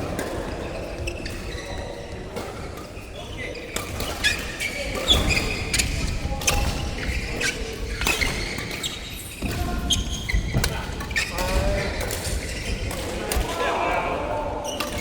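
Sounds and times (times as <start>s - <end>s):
shoes squeaking on floor: 0.0s - 13.2s.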